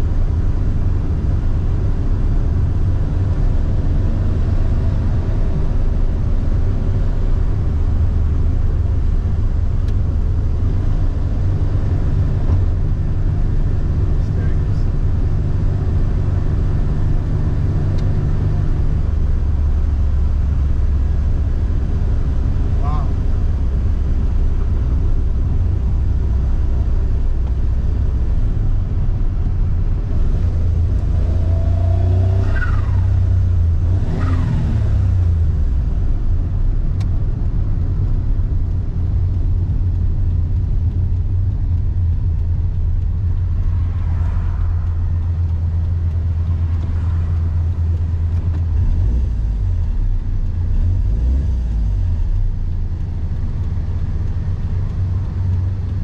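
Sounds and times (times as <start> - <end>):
car engine droning in cabin: 0.0 - 56.0.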